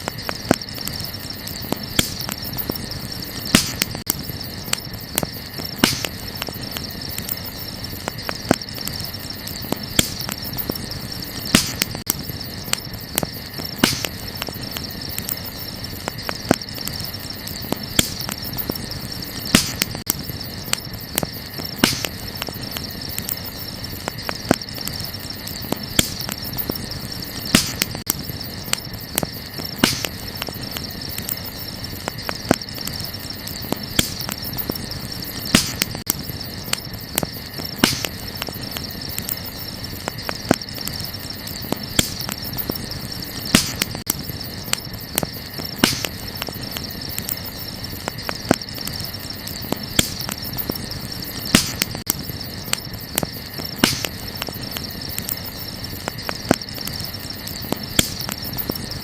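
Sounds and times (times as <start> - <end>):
campfire crackling: 0.0 - 59.0
steady high chirring: 0.0 - 59.0.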